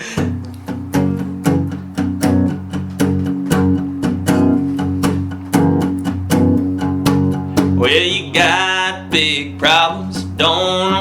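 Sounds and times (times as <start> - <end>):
guitar strumming: 0.0 - 11.0.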